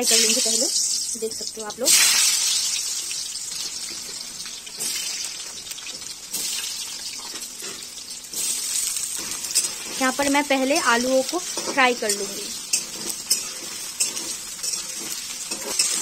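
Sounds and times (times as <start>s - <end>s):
potatoes frying in hot oil: 0.0s - 16.0s.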